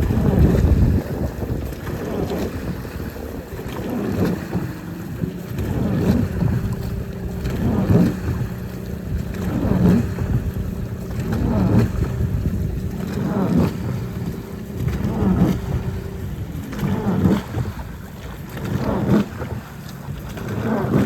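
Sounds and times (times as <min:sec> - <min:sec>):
boat engine humming: 0:00.0 - 0:21.0
wind on microphone: 0:00.0 - 0:21.0.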